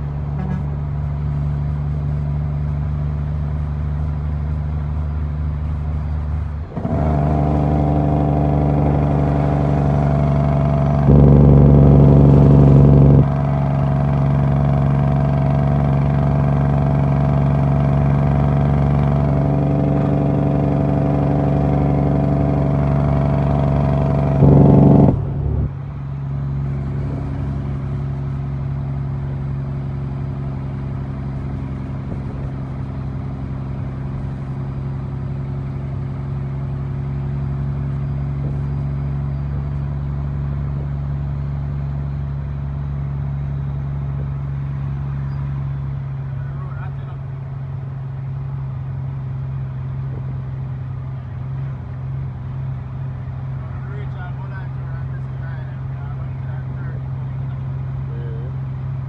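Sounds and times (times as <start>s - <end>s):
diesel truck engine droning: 0.0s - 59.0s.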